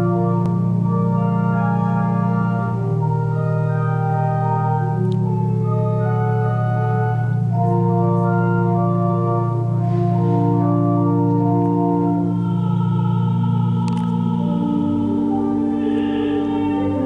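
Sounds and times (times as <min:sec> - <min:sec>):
organ music: 0:00.0 - 0:17.0.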